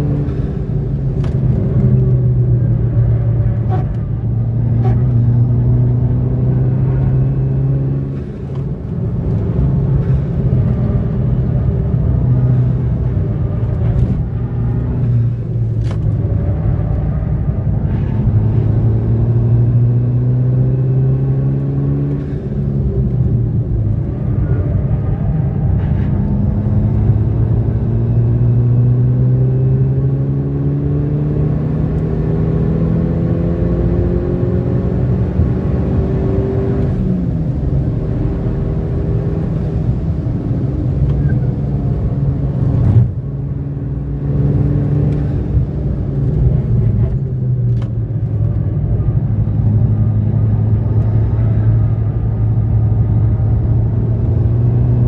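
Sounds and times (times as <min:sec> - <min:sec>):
car engine accelerating: 0:00.0 - 0:55.0
tyre and road noise: 0:00.0 - 0:55.0.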